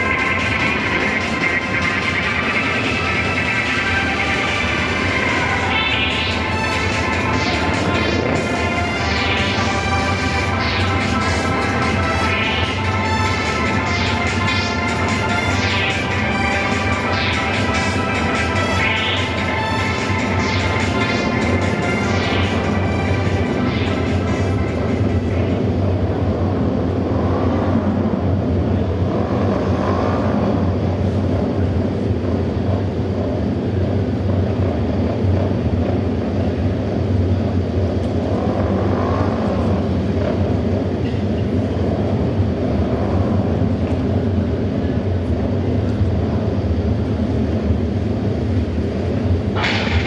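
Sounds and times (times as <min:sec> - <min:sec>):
motorcycle engines droning: 0:00.0 - 0:50.0.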